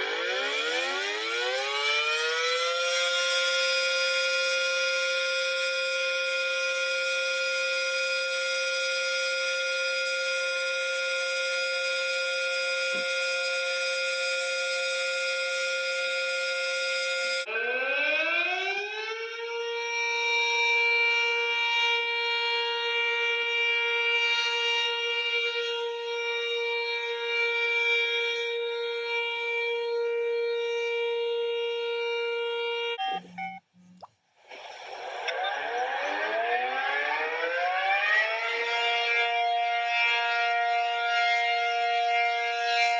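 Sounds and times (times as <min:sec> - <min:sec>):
siren rising in pitch: 0:00.0 - 0:34.0, 0:34.6 - 0:42.9
siren steady tone: 0:00.0 - 0:42.9.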